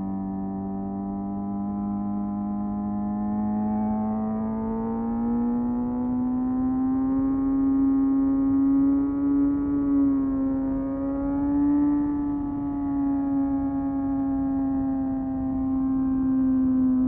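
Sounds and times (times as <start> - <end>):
motorcycle engine at high revs: 0.1 - 17.0.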